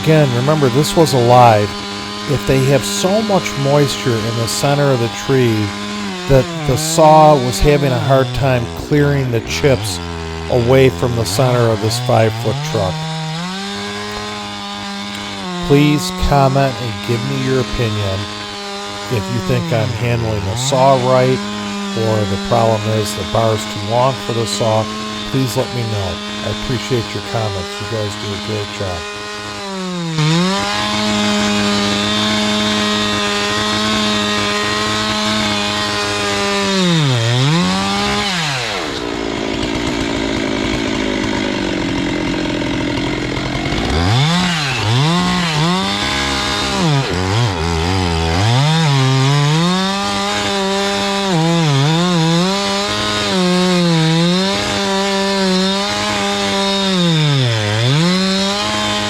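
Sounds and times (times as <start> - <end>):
chainsaw cutting at full throttle: 0.0 - 59.0.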